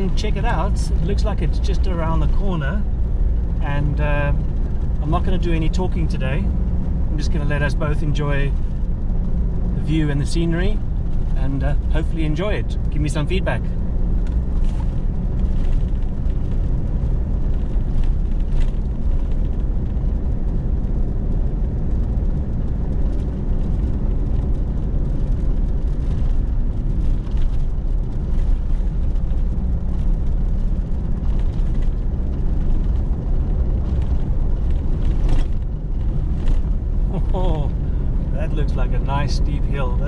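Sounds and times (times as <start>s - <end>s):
vehicle driving on gravel: 0.0s - 40.0s.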